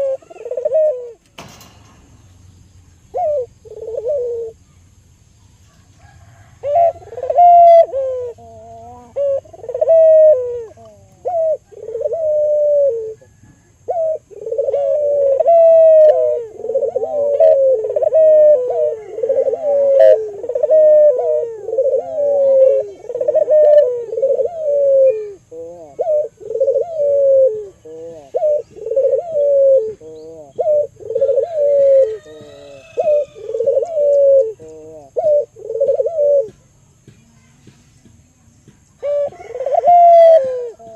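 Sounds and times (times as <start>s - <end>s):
dove cooing: 0.0s - 2.1s, 2.9s - 4.9s, 5.6s - 36.7s, 39.0s - 40.9s.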